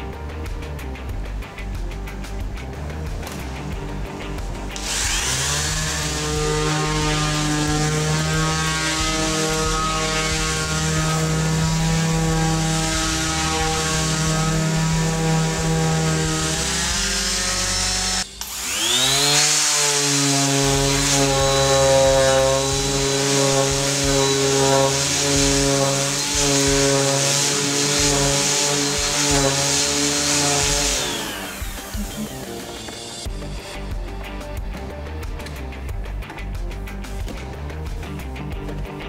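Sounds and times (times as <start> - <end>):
orbital sander on wood: 3.2 - 34.5.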